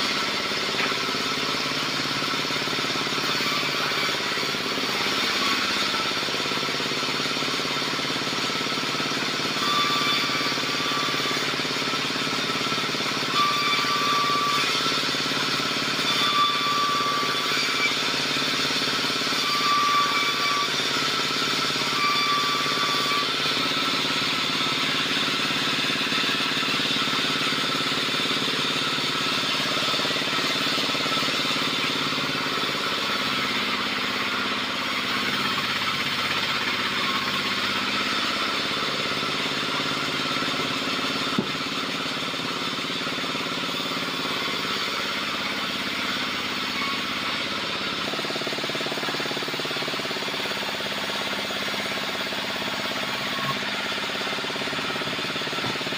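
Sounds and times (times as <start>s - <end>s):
bandsaw mill running: 0.0s - 55.9s
high-pitched saw whines: 0.0s - 55.9s.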